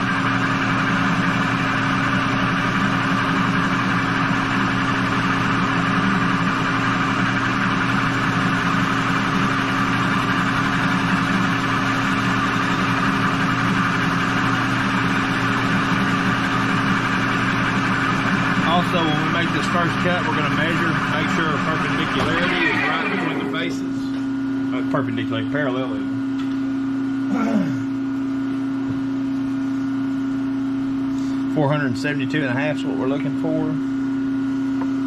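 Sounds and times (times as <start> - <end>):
lathe running with hum and hiss: 0.0 - 35.0.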